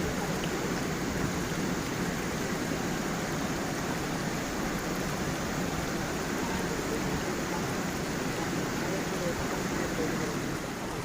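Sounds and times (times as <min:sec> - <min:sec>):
stream splashing over waterfall: 0:00.0 - 0:11.0.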